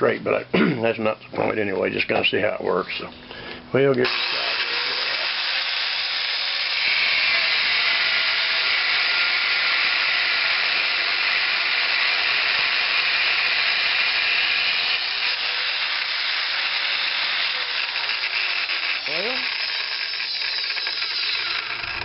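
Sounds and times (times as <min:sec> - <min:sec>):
angle grinder cutting metal: 0:04.0 - 0:22.0.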